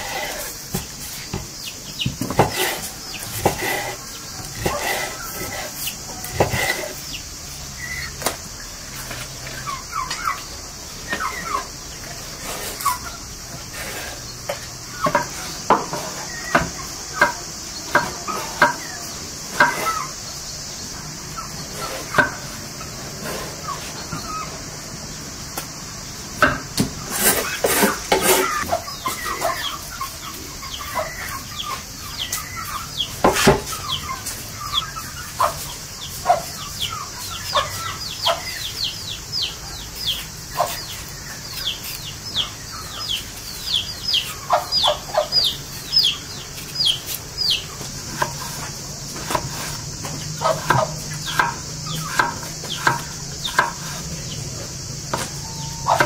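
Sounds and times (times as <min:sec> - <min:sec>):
chickens clucking: 0:00.0 - 0:56.0
chicks peeping: 0:00.0 - 0:56.0.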